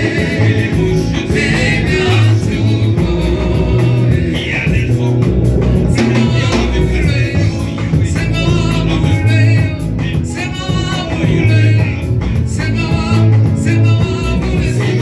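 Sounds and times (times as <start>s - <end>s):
band with pulsing bass: 0.0s - 15.0s
voices singing a hymn: 0.0s - 15.0s.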